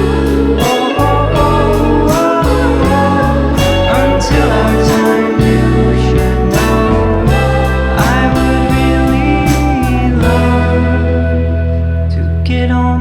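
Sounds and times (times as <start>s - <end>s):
pop song with guitar and drums: 0.0s - 13.0s.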